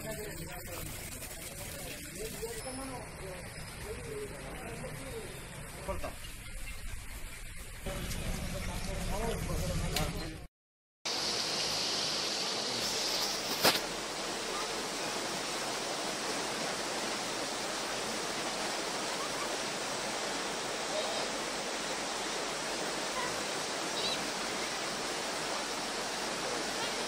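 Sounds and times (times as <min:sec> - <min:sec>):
floodwater rushing: 0:00.0 - 0:06.2, 0:11.1 - 0:27.0.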